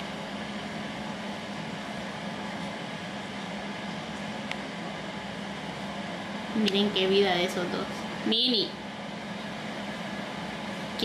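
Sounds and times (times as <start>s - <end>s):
household appliance humming: 0.0s - 11.0s.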